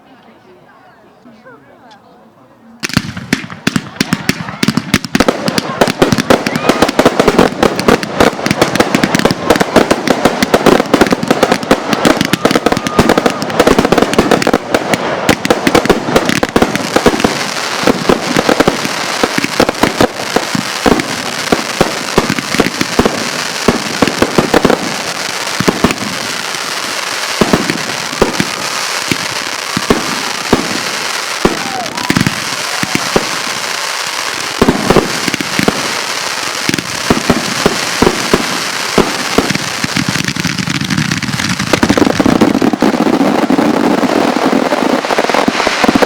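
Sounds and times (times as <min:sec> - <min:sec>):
fireworks bangs and cracks: 0:02.8 - 0:46.0.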